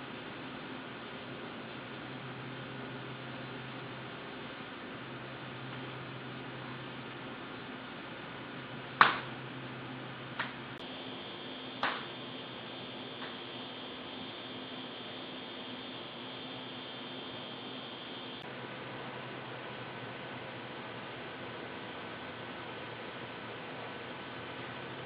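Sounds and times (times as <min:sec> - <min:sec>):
thin high whine: 0:00.0 - 0:22.1
electrical hiss and hum: 0:00.0 - 0:25.0.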